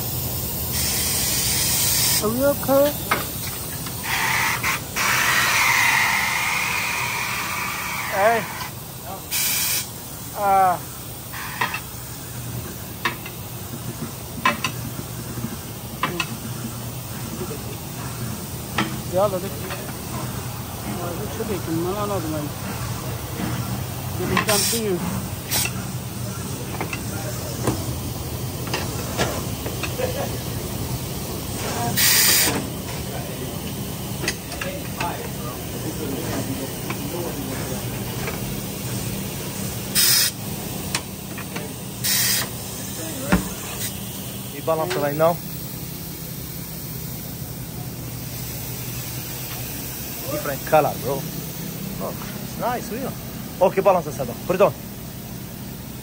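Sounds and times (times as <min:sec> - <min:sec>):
compressed air hissing: 0:00.0 - 0:56.0.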